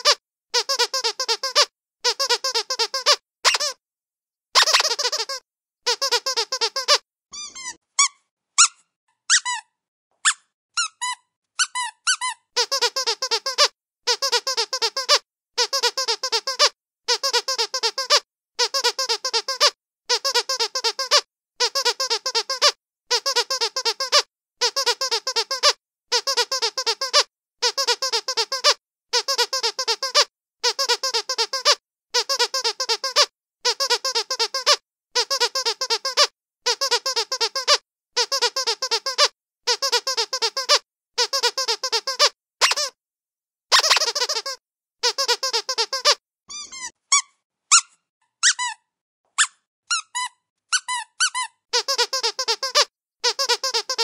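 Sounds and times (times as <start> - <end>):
squeaky dog toy: 0.0 - 3.8, 4.5 - 43.0, 43.7 - 54.0.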